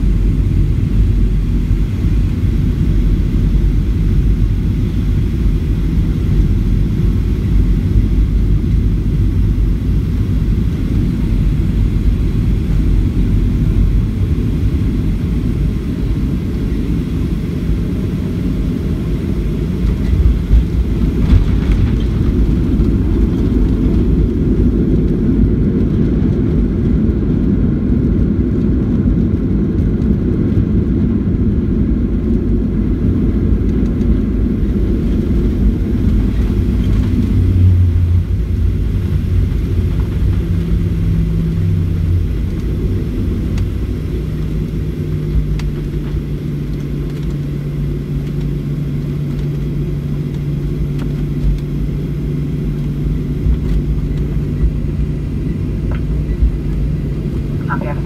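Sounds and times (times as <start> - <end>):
jet engine and airflow rumble: 0.0 - 58.0.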